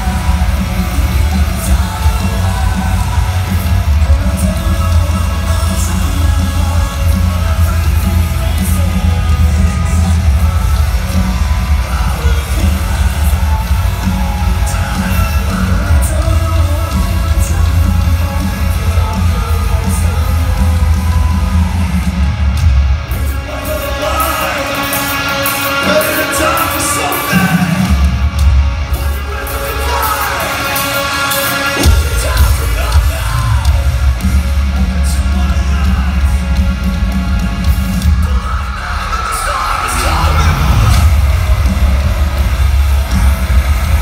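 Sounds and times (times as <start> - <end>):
sung vocals: 0.0 - 22.3, 23.1 - 44.0
live metalcore band: 0.0 - 44.0.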